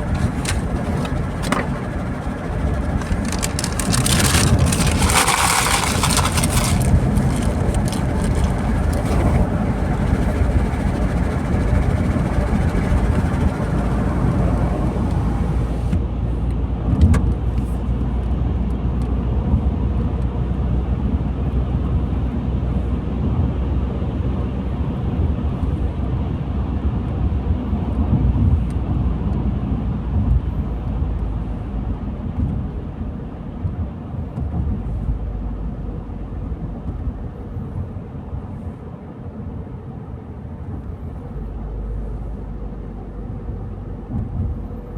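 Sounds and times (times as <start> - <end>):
car engine and tyre rumble: 0.0 - 44.9.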